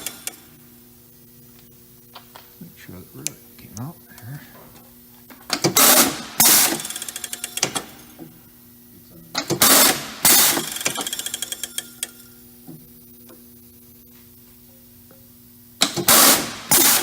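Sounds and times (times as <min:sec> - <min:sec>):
low machine hum: 0:00.0 - 0:16.7.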